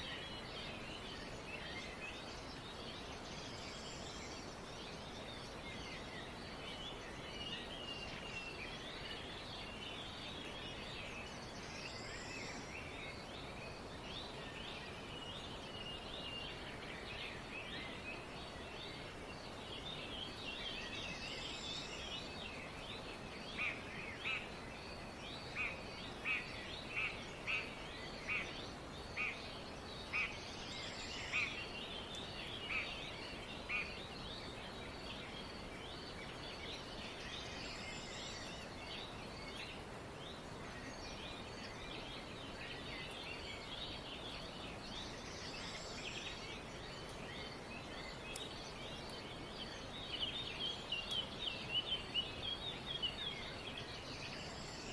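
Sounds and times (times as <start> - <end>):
background hiss: 0.0 - 54.9.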